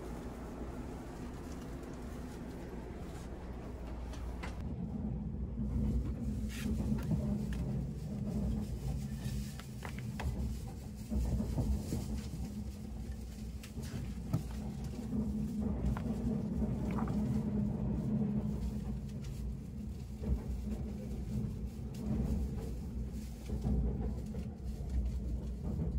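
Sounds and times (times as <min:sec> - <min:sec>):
train running rumble: 0:00.0 - 0:25.9.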